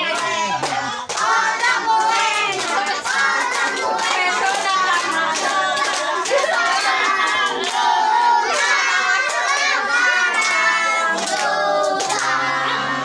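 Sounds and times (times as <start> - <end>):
hand clapping: 0.0 - 7.9, 8.5 - 12.4
children shouting and cheering: 0.0 - 13.0.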